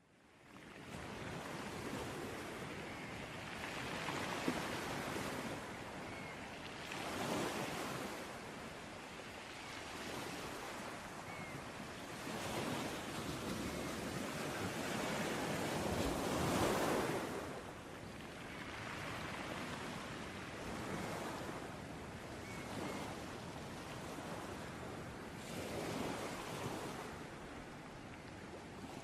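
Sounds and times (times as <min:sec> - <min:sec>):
ocean waves breaking on beach: 0:00.3 - 0:29.0.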